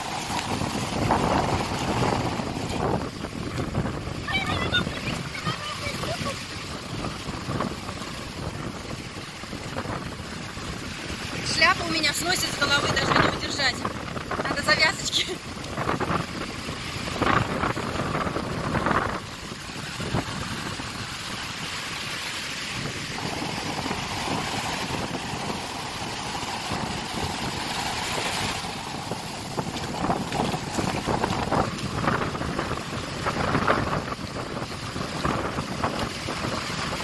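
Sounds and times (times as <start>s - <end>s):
surf breaking on sandy shore: 0.0s - 37.0s
wind buffeting microphone: 0.0s - 37.0s.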